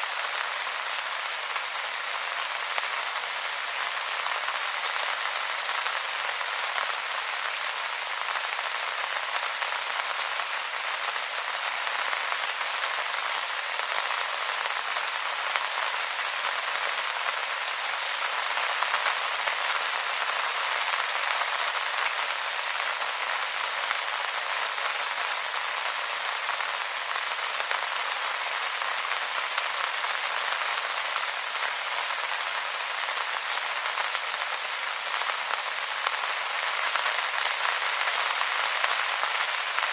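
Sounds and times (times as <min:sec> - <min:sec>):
rain falling on wet leaves: 0:00.0 - 0:39.9.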